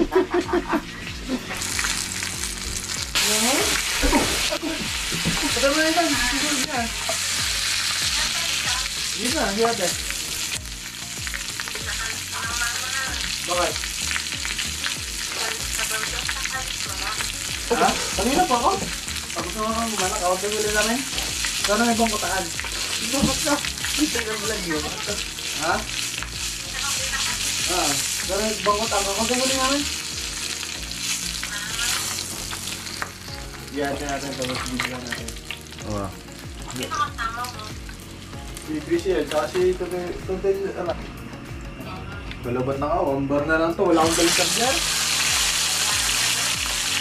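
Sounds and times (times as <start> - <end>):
squid sizzling in hot oil: 1.2 - 40.9, 43.9 - 47.0.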